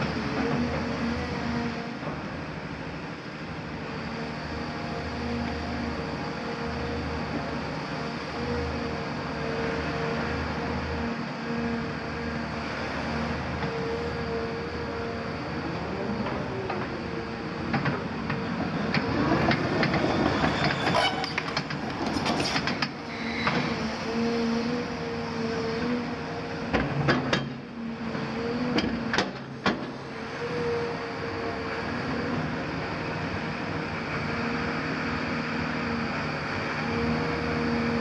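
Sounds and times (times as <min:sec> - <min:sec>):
excavator engine whine: 0:00.0 - 0:38.0.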